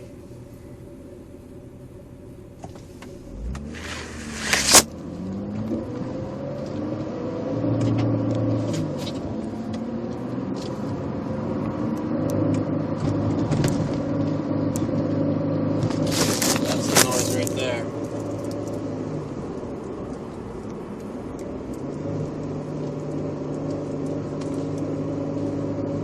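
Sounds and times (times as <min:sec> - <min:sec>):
car engine accelerating through gears: 0:02.6 - 0:26.0.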